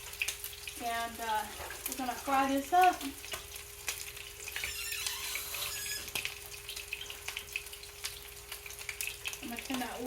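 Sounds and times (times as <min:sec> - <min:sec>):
chicken frying in hot oil: 0:00.0 - 0:10.0.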